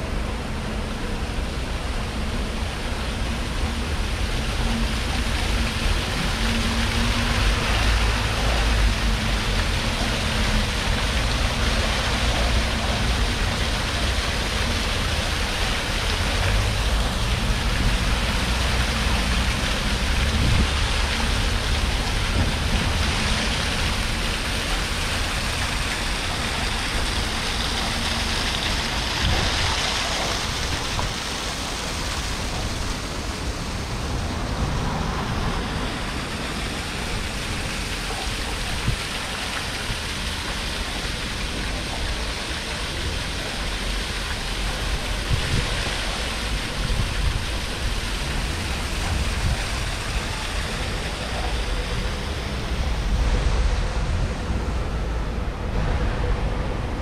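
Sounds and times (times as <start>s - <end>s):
city traffic rumble: 0.0s - 57.0s
fountain water splashing: 0.0s - 57.0s.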